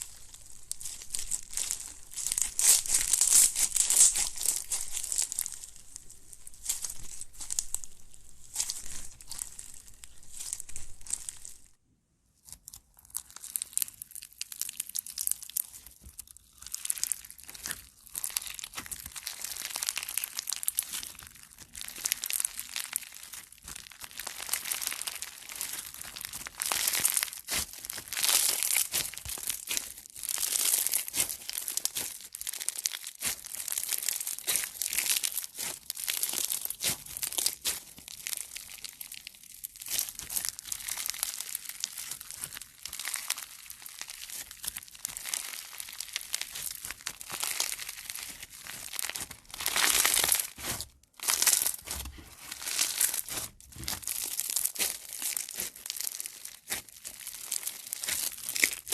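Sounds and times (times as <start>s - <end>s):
crunchy slime crackling and popping: 0.0s - 11.8s, 12.4s - 58.9s.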